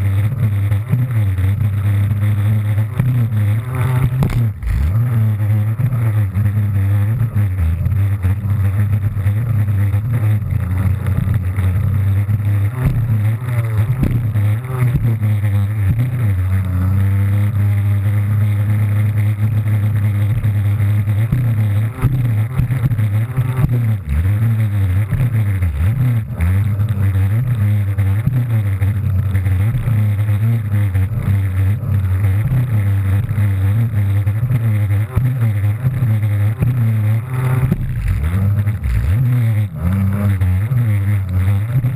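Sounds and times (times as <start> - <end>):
jet ski engine revving: 0.0 - 41.9.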